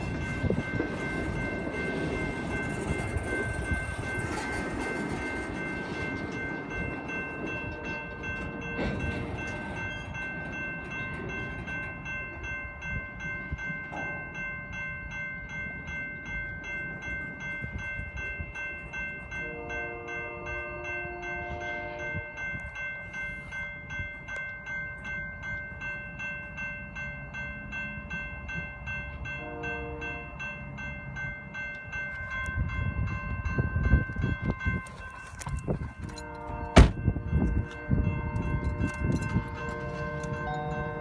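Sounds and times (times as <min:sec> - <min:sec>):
chime-like music: 0:00.0 - 0:41.0
freight train rumbling: 0:00.0 - 0:41.0
train clank: 0:00.0 - 0:41.0.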